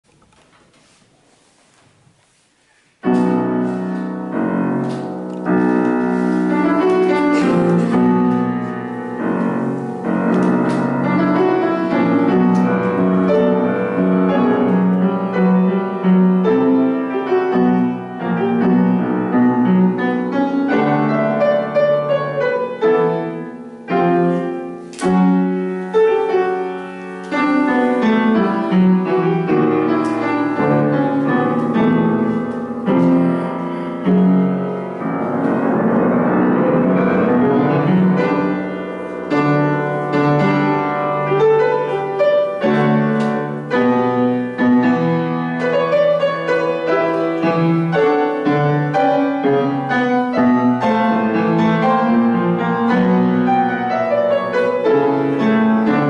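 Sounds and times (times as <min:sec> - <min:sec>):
piano playing funeral march: 0:03.0 - 0:56.0.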